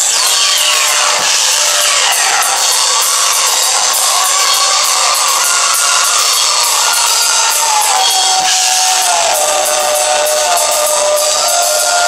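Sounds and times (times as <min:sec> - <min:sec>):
drum kit: 0:00.0 - 0:12.0.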